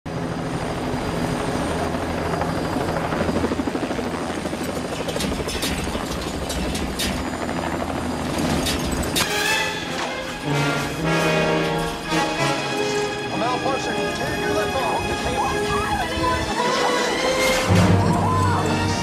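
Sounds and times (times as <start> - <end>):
helicopter engine and rotor: 0.1 - 19.0.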